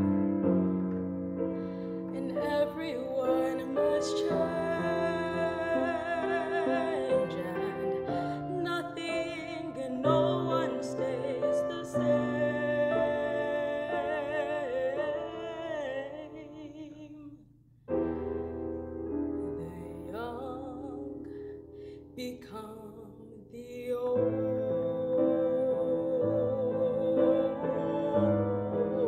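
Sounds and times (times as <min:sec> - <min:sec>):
grand piano accompaniment: 0:00.0 - 0:16.5, 0:17.9 - 0:22.6, 0:23.8 - 0:29.0
woman singing with vibrato: 0:02.1 - 0:17.4, 0:19.3 - 0:21.3, 0:22.2 - 0:29.0.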